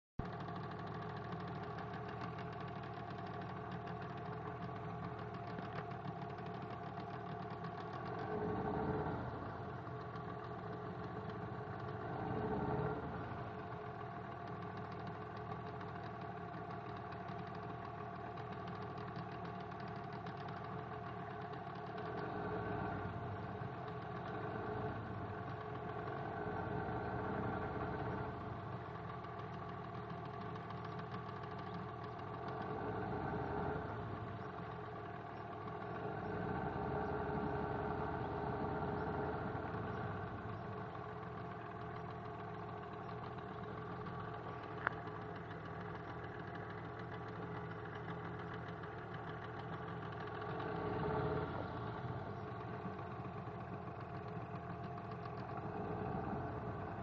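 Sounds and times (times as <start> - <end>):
boat motor running: 0.2 - 57.0.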